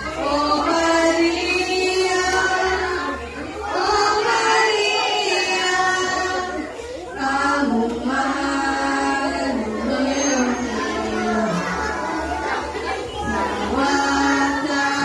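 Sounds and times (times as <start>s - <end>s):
voices singing a hymn: 0.0s - 15.0s.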